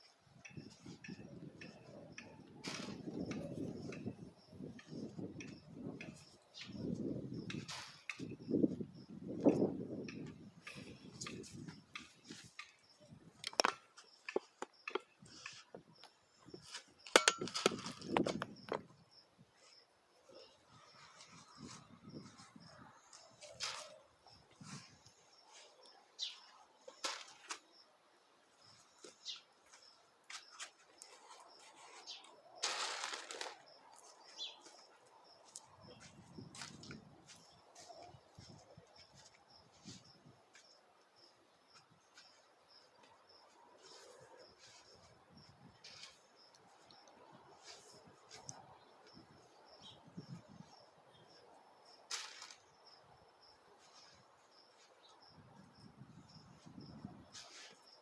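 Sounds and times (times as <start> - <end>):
insect chirping: 0.4 - 28.0, 28.6 - 58.0.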